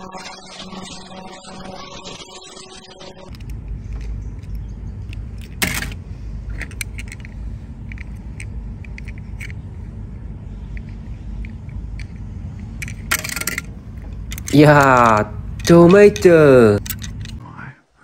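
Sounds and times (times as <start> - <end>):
low rumble: 3.2 - 17.7.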